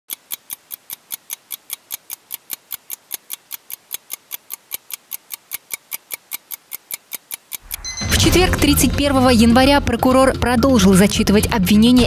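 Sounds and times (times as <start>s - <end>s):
clock ticking: 0.1s - 12.0s.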